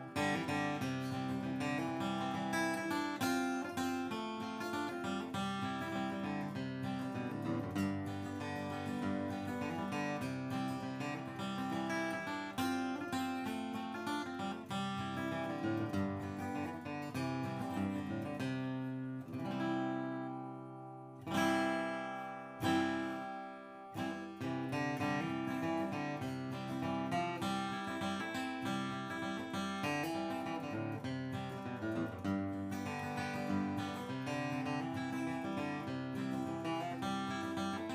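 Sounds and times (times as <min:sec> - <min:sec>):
acoustic guitar picking and strumming: 0:00.0 - 0:37.9.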